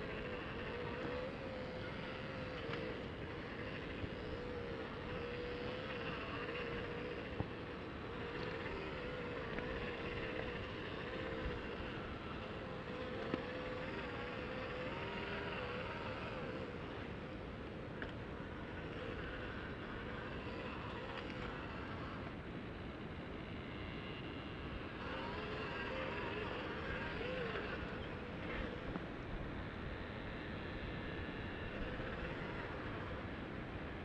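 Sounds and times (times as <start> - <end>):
electric motor and gears whining: 0.0 - 34.0.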